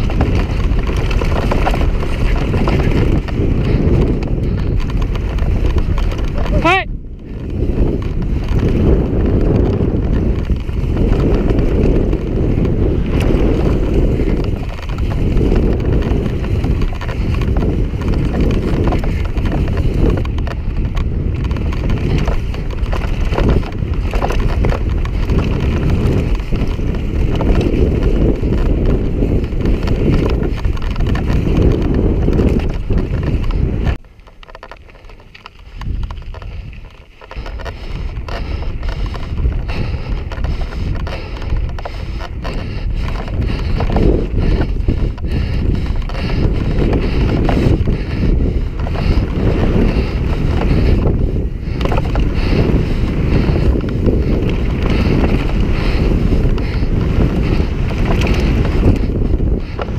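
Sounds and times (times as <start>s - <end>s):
bike rattling over rough ground: 0.0s - 59.9s
wind buffeting microphone: 0.0s - 59.9s.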